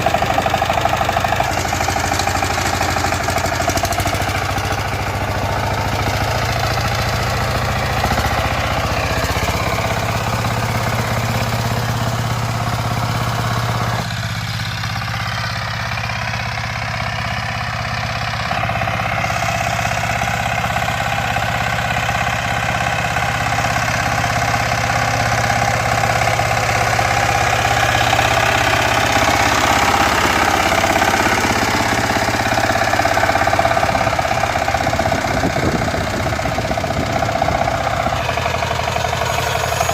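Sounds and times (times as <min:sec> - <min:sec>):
power tiller engine knocking: 0:00.0 - 0:39.9.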